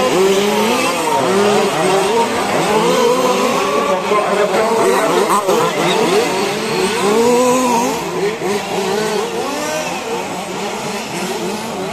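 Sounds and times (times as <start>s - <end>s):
small two-stroke engines racing: 0.0s - 11.9s.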